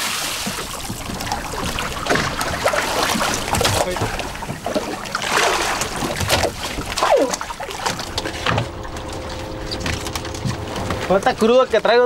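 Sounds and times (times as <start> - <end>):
water splashing: 0.0 - 12.0
knocks in a small boat: 0.4 - 11.5.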